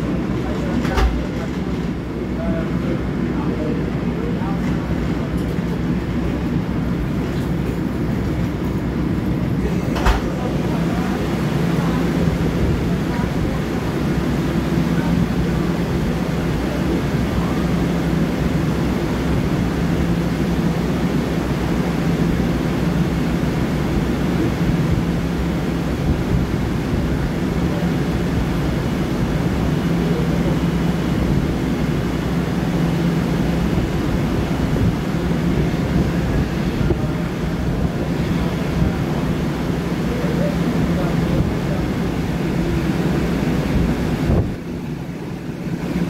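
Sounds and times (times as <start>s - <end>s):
constant rushing noise: 0.0s - 46.0s
train equipment humming: 0.0s - 46.0s.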